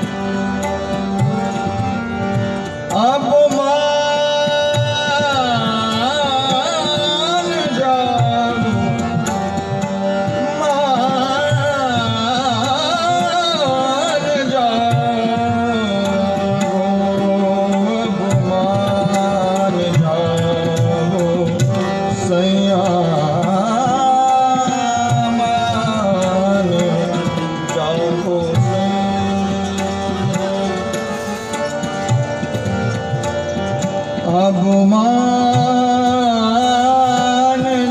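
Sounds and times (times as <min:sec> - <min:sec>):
harmonium tones: 0:00.0 - 0:37.9
tabla rhythm: 0:00.0 - 0:37.9
man singing: 0:02.7 - 0:37.9.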